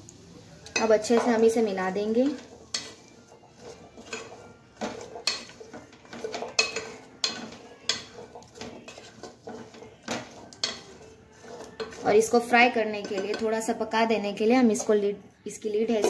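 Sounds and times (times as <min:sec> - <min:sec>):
wooden spatula scraping a pot: 0:00.8 - 0:15.2.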